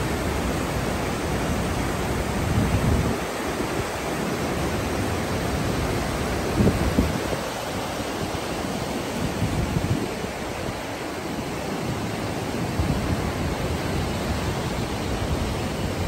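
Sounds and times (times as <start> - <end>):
river rapids roaring: 0.0 - 16.0
wind rumbling on microphone: 0.0 - 16.0.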